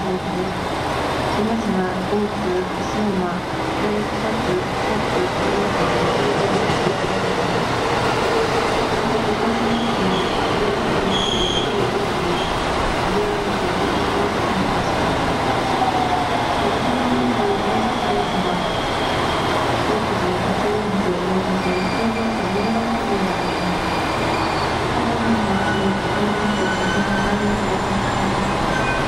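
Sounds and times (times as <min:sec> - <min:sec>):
electric train rumbling to a stop: 0:00.0 - 0:29.0.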